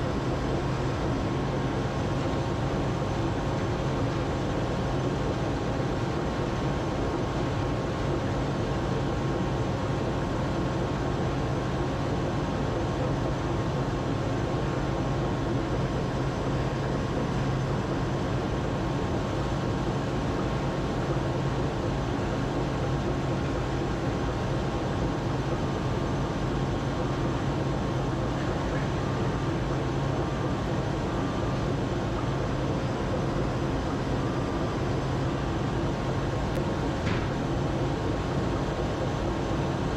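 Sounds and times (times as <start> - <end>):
mechanical drone with low hum: 0.0 - 39.9.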